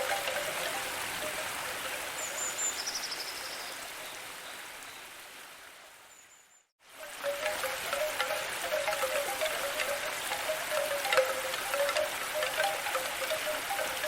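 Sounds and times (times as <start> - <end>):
steady water ambience: 0.0 - 14.0.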